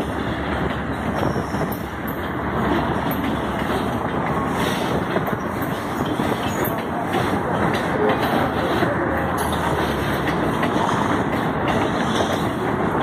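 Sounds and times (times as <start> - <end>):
freight train rolling past: 0.0 - 13.0
steel wheels clattering on rails: 0.0 - 13.0.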